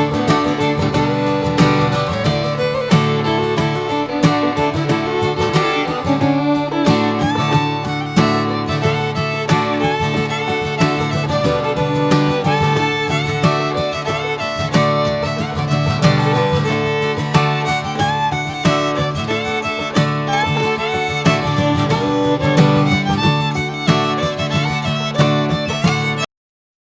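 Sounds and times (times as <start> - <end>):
bluegrass tune with fiddle: 0.0 - 26.3.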